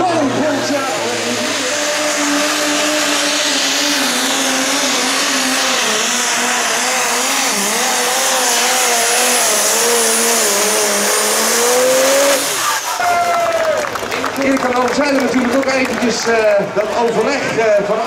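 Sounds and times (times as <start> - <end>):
tractor diesel engine labouring: 0.0 - 17.8.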